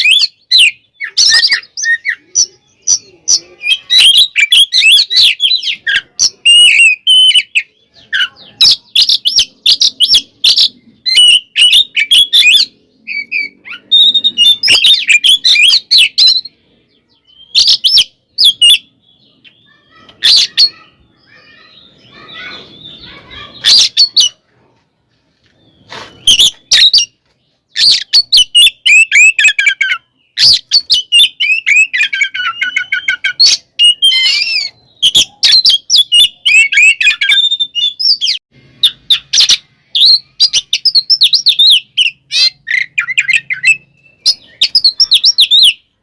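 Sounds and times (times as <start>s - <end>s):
bird singing sharp whistles and trills: 0.0s - 24.4s, 25.6s - 46.0s.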